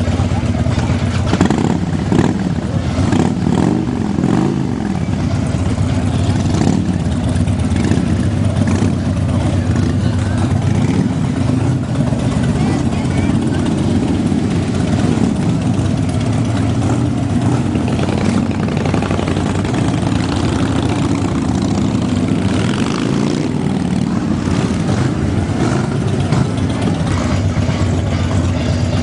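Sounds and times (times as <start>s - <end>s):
motorcycle engines idling: 0.0s - 29.0s.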